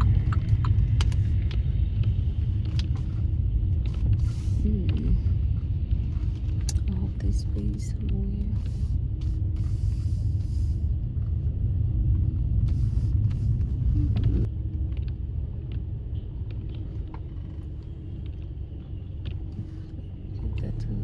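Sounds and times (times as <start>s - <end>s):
car interior road and engine rumble: 0.0s - 21.0s.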